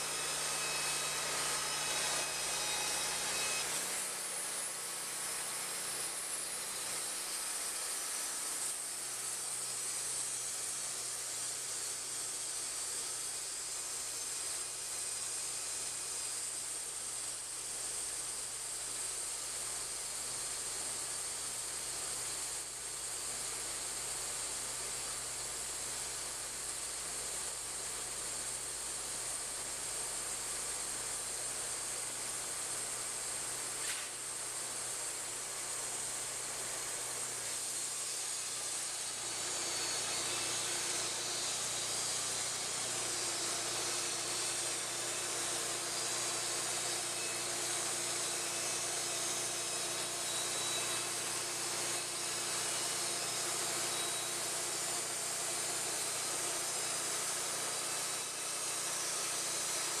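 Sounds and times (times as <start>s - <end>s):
band saw blade whine: 0.0s - 60.0s.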